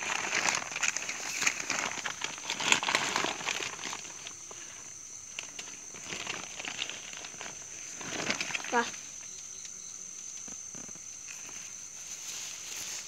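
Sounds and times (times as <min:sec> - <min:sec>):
rustling and crackling handling: 0:00.0 - 0:13.0.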